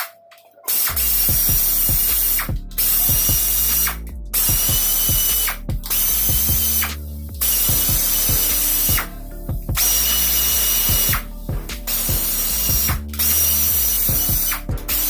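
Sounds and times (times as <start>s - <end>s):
pneumatic wrench hissing and clicking: 0.7s - 9.1s, 9.8s - 11.2s, 11.9s - 15.0s.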